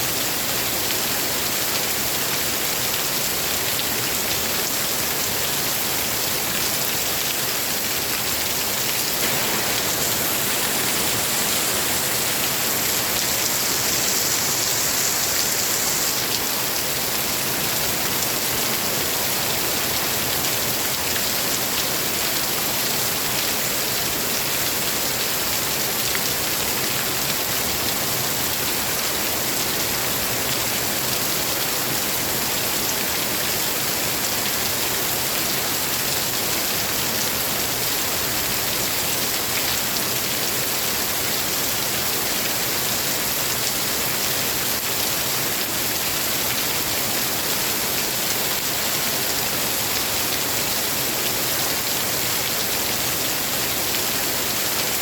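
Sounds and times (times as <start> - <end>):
heavy rain falling: 0.1 - 55.0.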